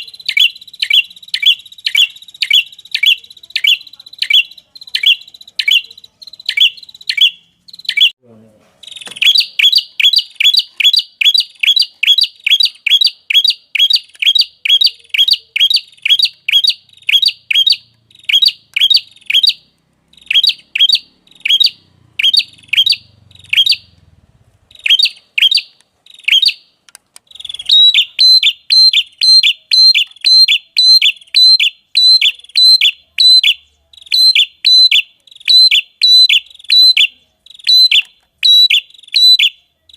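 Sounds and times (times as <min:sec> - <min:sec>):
songbird chirping: 0:00.0 - 0:08.2, 0:08.8 - 0:39.9.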